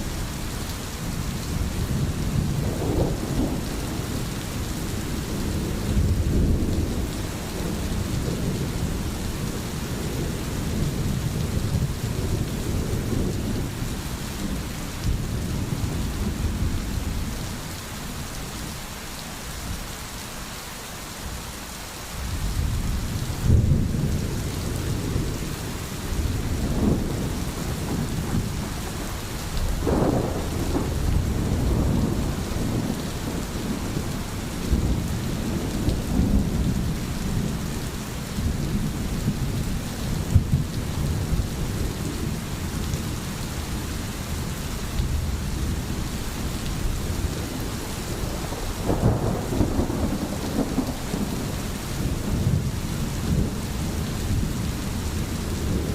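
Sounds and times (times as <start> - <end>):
steady rain hiss: 0.0 - 55.9
rolling thunder: 1.4 - 17.2, 22.6 - 43.2, 46.8 - 55.9.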